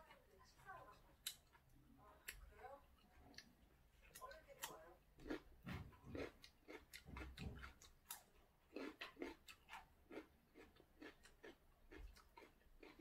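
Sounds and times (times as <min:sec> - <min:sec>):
cucumber crunching being chewed: 0:01.2 - 0:13.0.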